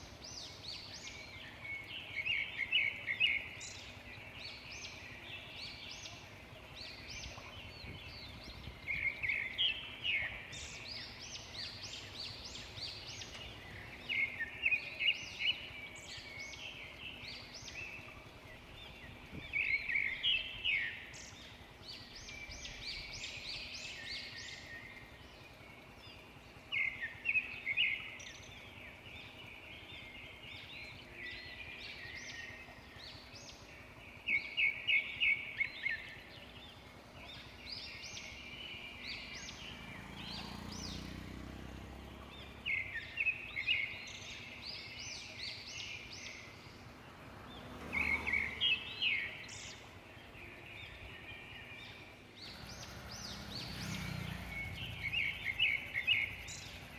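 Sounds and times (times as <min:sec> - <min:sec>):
birds chirping: 0:00.0 - 0:56.9
outdoor background: 0:00.0 - 0:56.9.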